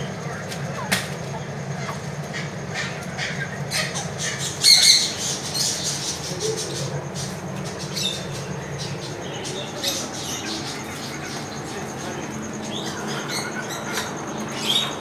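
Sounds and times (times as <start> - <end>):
birds chirping and squawking: 0.0 - 15.0
steady low hum: 0.0 - 15.0.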